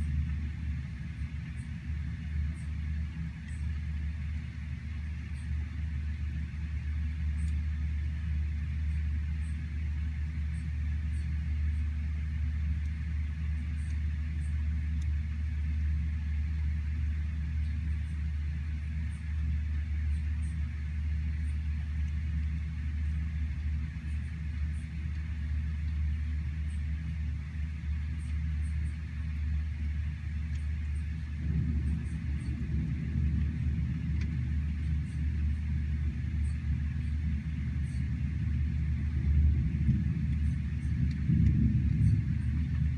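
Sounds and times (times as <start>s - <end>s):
deep rumble: 0.0s - 42.9s
heavy rain on trees: 0.0s - 42.9s.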